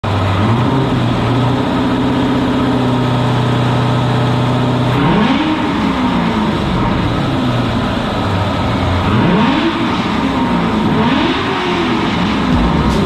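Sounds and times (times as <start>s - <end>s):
car engine running and revving: 0.0s - 13.0s.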